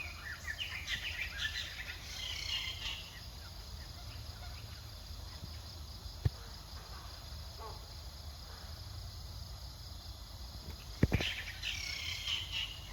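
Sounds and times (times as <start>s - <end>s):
insects droning: 0.0s - 12.9s.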